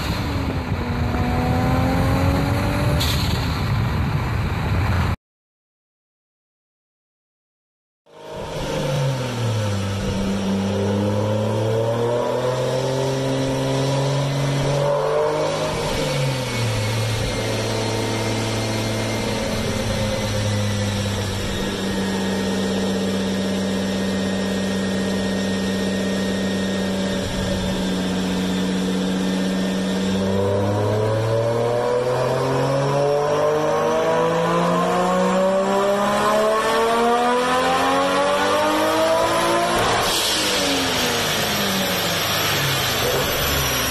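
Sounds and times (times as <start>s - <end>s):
car engine running under load: 0.0s - 4.8s, 8.2s - 33.1s, 33.7s - 43.9s.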